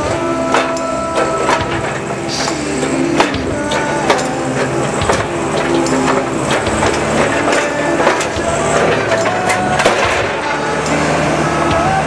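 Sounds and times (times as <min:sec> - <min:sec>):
diesel engine under load: 0:00.0 - 0:12.0
knocks and rattles: 0:00.0 - 0:12.0.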